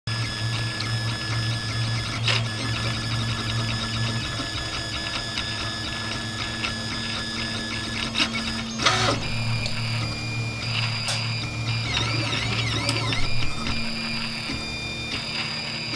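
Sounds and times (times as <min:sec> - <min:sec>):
stepper motors whining: 0:00.1 - 0:15.9.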